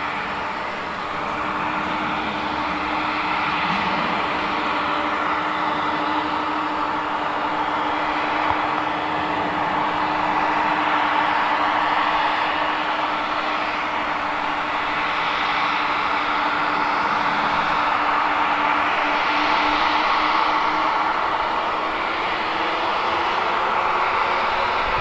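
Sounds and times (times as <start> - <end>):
constant low hum: 0.0 - 25.0
jet engines running: 0.0 - 25.0.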